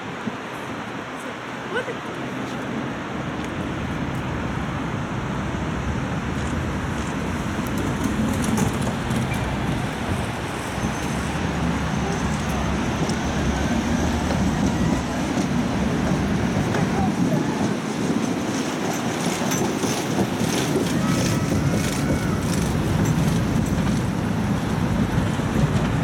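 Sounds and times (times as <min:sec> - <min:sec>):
tram wheels rumbling on rails: 0:03.1 - 0:26.0.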